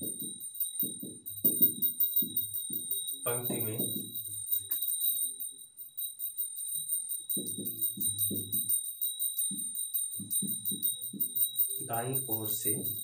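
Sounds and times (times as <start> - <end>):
music with jingling beat: 0.0 - 13.0.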